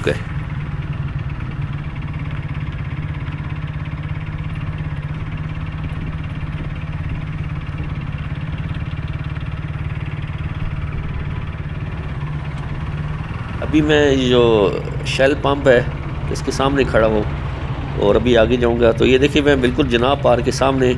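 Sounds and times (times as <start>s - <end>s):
motorcycle engine idling low: 0.0s - 20.9s.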